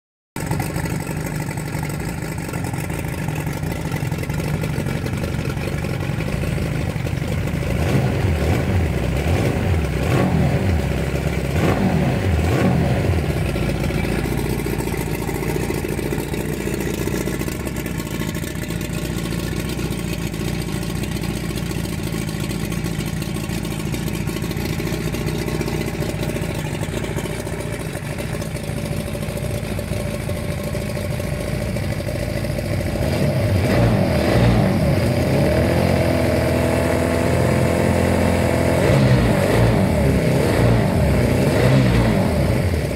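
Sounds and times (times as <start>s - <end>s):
outboard motor revving and idling: 0.4s - 42.9s.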